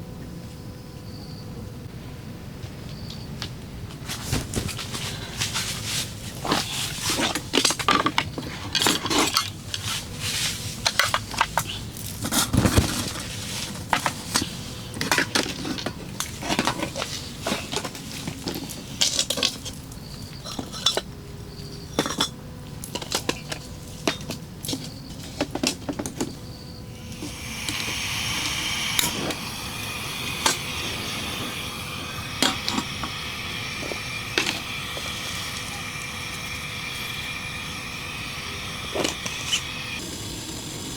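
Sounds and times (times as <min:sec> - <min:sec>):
steady hiss: 0:01.8 - 0:21.0, 0:26.5 - 0:40.9.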